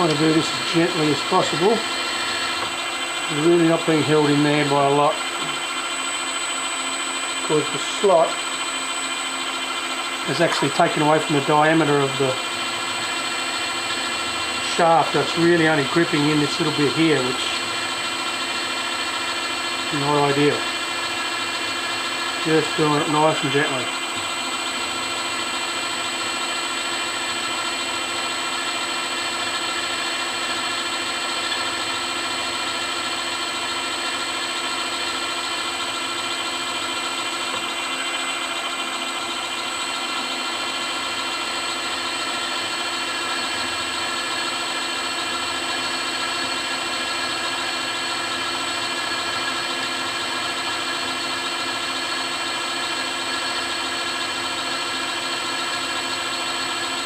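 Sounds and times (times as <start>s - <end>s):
milling machine spindle whine: 0.0s - 57.0s.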